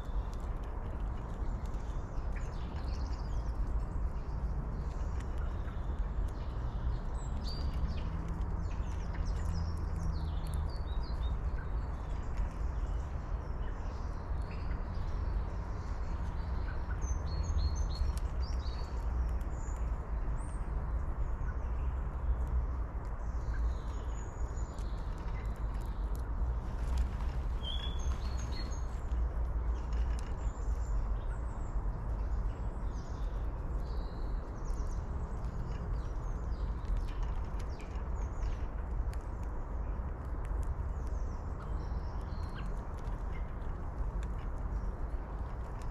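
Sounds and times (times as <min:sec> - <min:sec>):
small birds chirping: 0:00.0 - 0:45.9
steady low rumble: 0:00.0 - 0:45.9.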